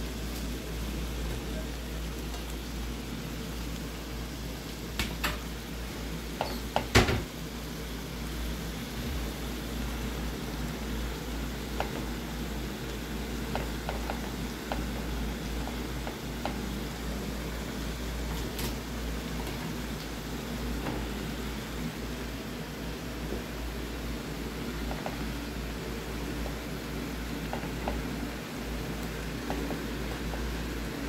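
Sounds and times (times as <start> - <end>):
low hum with faint hiss: 0.0 - 31.0.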